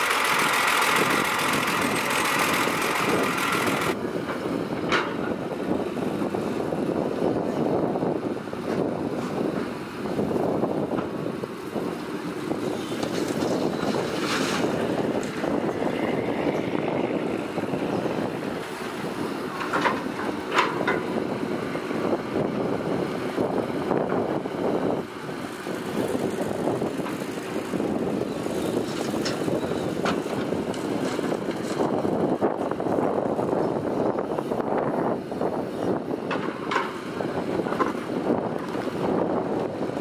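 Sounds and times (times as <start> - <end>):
construction vehicles rumbling: 0.0 - 40.0.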